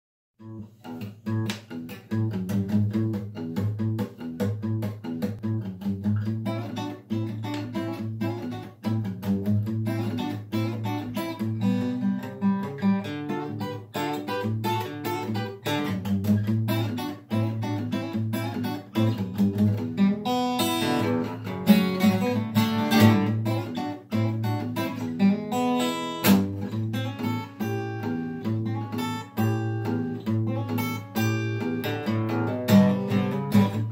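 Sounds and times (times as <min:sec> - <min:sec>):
acoustic guitar picking: 0:00.4 - 0:33.9.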